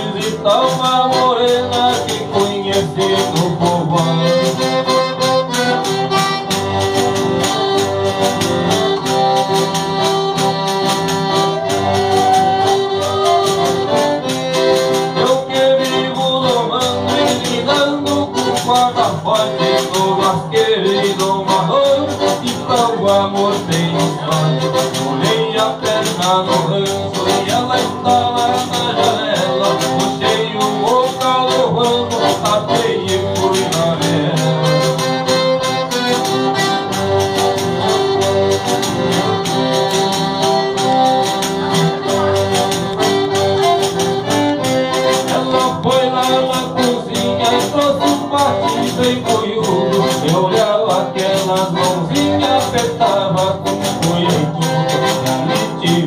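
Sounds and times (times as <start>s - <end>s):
button accordion: 0.0s - 56.0s
strummed acoustic guitar: 0.0s - 56.0s.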